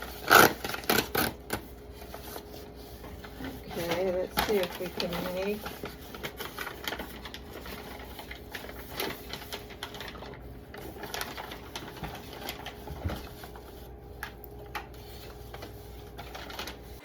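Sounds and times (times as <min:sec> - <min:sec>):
paper wrap crinkling and tearing: 0:00.0 - 0:17.0.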